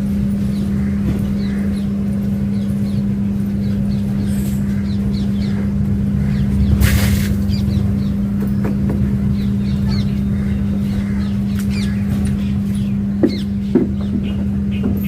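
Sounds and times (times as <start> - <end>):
birds chirping: 0.0 - 15.0
low mechanical hum: 0.0 - 15.0.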